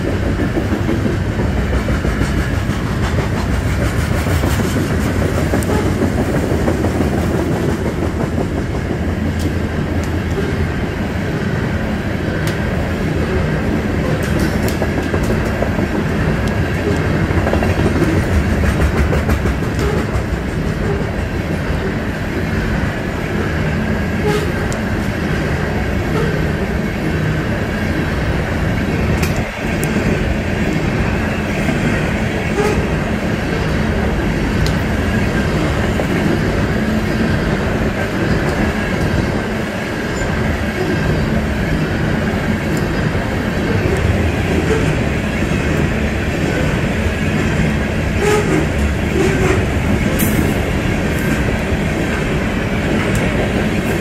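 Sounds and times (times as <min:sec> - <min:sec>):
rail clacks: 0:00.0 - 0:54.0
train wheels rumbling on rails: 0:00.0 - 0:54.0.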